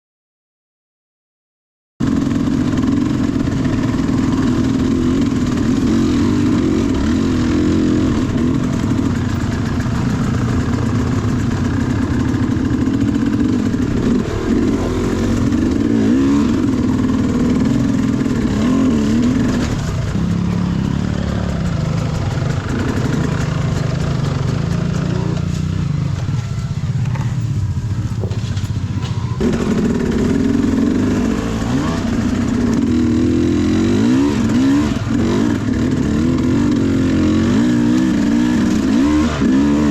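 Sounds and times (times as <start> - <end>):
dirt bike engine revving: 2.0 - 39.9.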